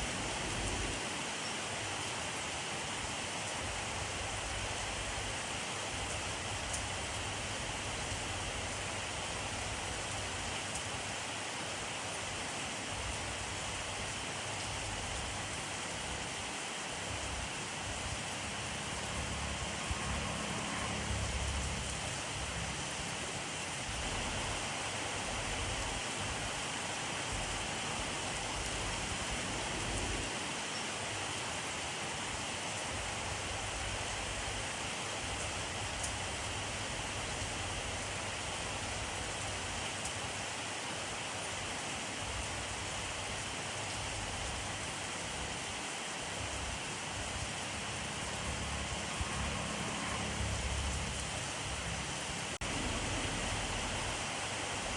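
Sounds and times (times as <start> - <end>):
rain hissing on surfaces: 0.0 - 54.9.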